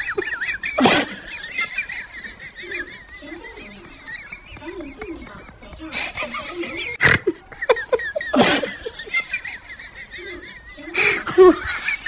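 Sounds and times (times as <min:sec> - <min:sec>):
wavering laughter: 0:00.0 - 0:12.0.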